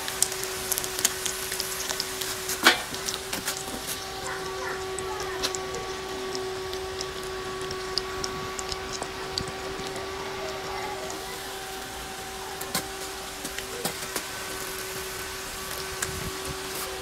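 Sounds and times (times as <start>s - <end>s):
coil humming tone: 0.0s - 17.0s
eggs frying crackles and pops: 0.0s - 17.0s.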